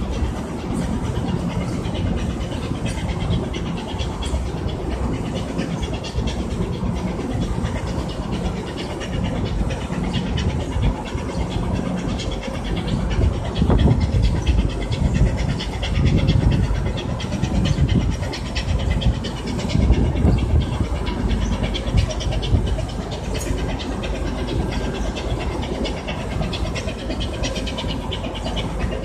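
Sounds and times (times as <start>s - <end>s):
boat engine running: 0.0s - 29.0s
wind rumbling on microphone: 0.0s - 29.0s.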